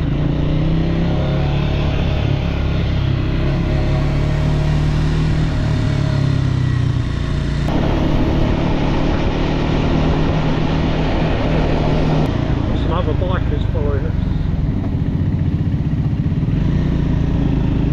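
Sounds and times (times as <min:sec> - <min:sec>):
motorcycle engine running: 0:00.0 - 0:17.9
rushing wind and road noise: 0:00.0 - 0:17.9.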